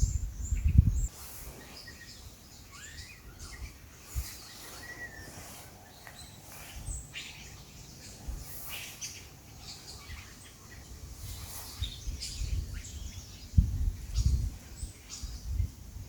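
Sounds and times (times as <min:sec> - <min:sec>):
birds calling and chirping: 0:00.0 - 0:15.8
faint outdoor hiss: 0:00.0 - 0:16.0.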